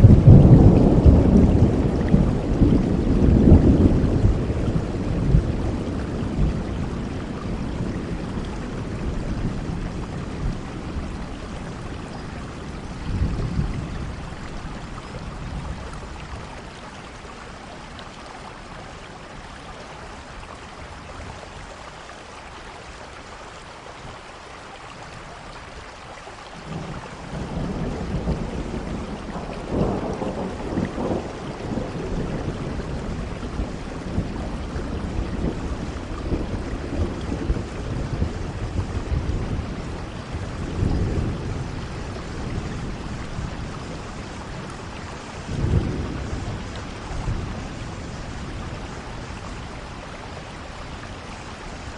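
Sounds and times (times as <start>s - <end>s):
thunder rumbling: 0.0s - 17.7s, 26.6s - 51.9s
rain hissing: 0.0s - 51.9s.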